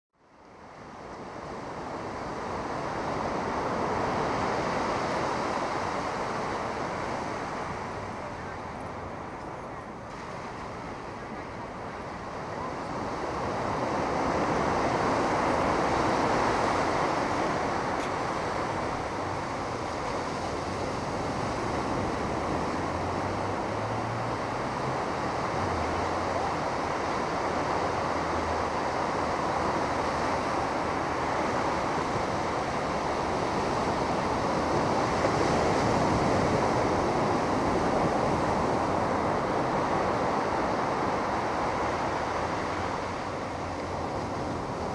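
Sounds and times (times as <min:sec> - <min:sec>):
ocean surf washing on beach: 0:00.4 - 0:44.9.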